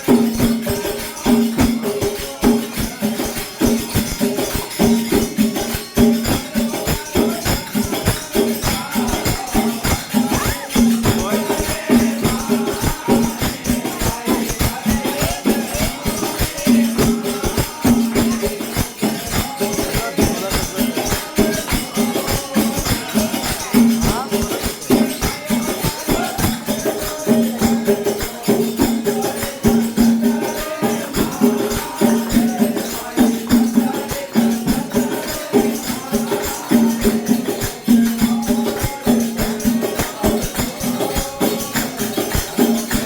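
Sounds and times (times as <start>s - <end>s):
fast percussion: 0.0s - 43.0s.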